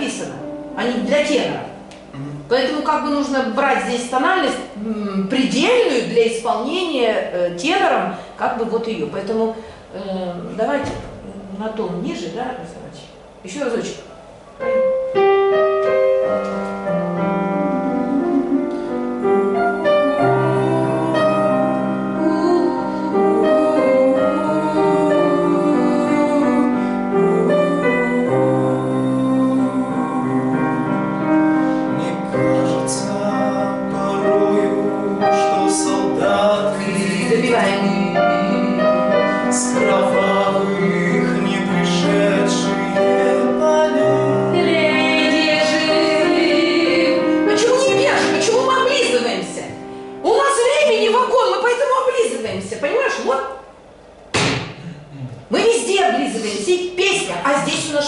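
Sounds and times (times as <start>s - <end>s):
piano backing track: 0.0s - 58.0s.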